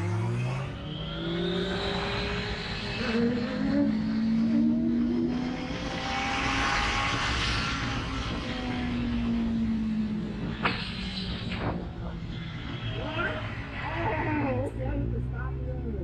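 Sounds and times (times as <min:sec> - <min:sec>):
wind rush on camera: 0:02.0 - 0:15.7.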